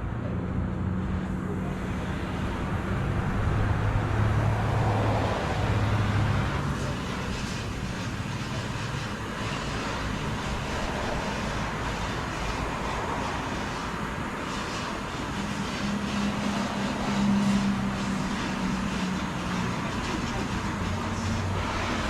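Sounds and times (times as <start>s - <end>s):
shop noise: 0.1s - 22.0s.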